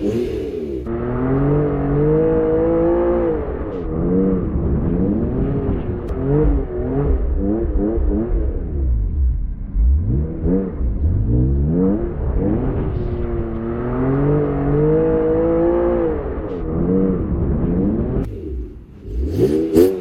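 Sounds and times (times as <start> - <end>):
car engine revving hard: 0.0 - 20.0.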